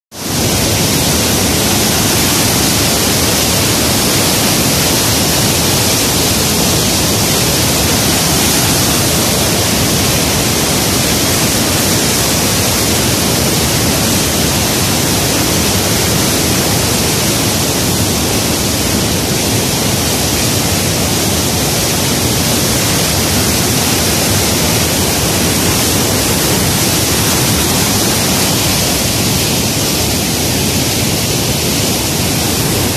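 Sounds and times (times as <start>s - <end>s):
white water rushing down cascade: 0.1s - 32.9s.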